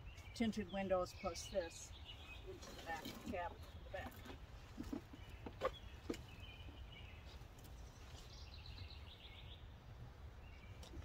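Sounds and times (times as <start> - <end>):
songbird chirping and trilling: 0.0 - 11.0.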